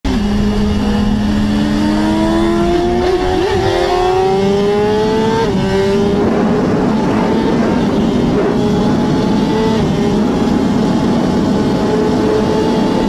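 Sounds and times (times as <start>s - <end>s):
motorbike engine at high revs: 0.1s - 13.0s.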